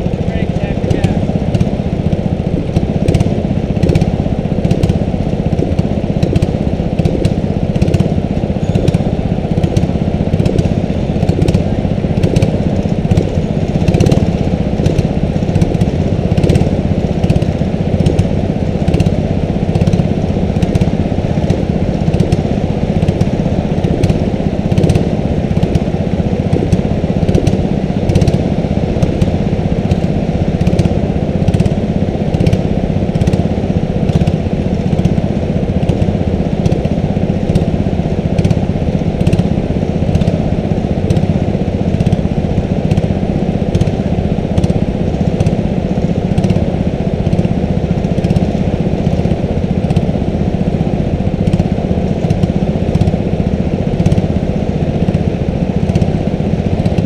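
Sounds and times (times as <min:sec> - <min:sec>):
go-kart engines idling: 0:00.0 - 0:57.0.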